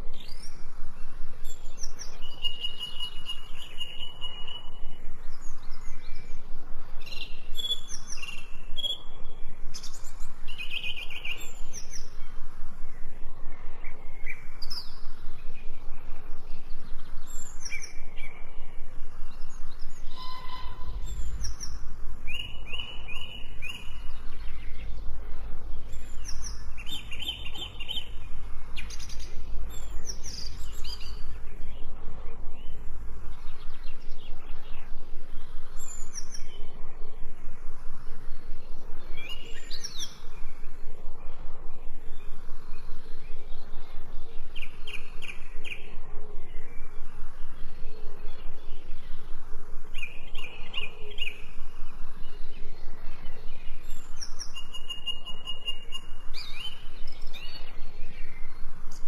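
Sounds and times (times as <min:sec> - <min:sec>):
birds chirping and singing: 0:00.0 - 0:37.1, 0:38.2 - 0:41.2, 0:41.9 - 0:59.0.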